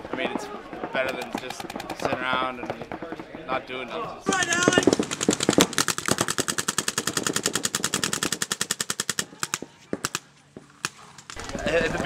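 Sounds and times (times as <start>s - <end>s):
paintball markers firing: 0.0s - 3.6s, 4.3s - 11.9s.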